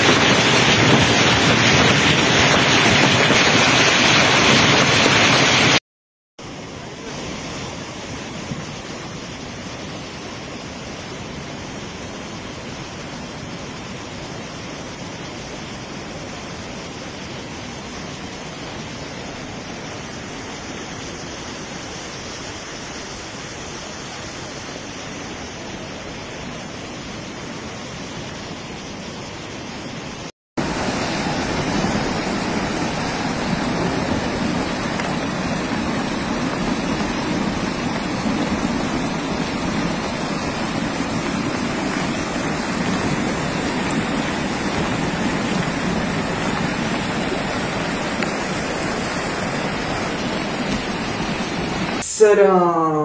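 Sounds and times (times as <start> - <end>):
floodwater rushing: 0.0 - 5.8, 6.4 - 53.0.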